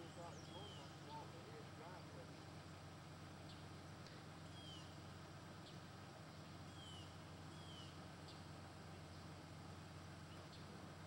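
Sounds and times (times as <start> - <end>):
faint bird calls: 0.0 - 9.4
low steady hum: 0.0 - 11.0.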